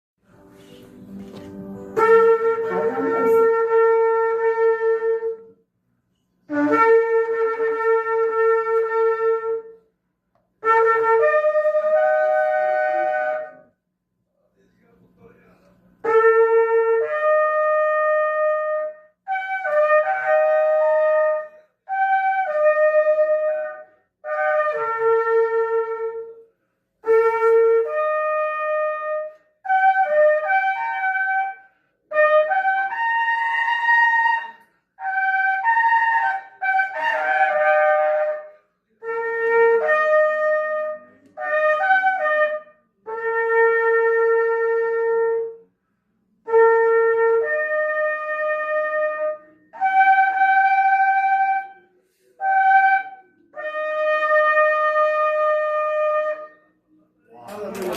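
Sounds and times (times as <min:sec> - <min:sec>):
shofar blasts: 0:00.8 - 0:05.6, 0:06.4 - 0:09.9, 0:10.6 - 0:13.8, 0:16.0 - 0:45.7, 0:46.4 - 0:56.7.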